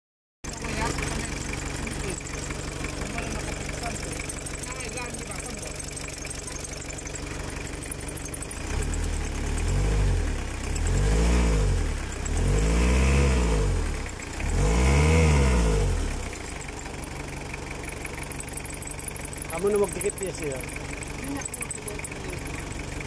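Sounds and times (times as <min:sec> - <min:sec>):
diesel engine revving and idling: 0:00.4 - 0:23.0.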